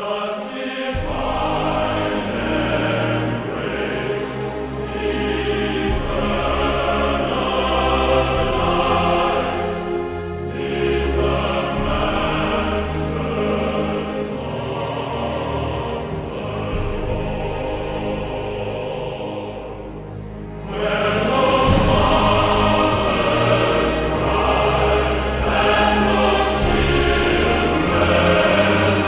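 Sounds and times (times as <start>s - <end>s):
choir singing held notes: 0.0s - 29.0s
low sustained accompaniment: 0.0s - 29.0s.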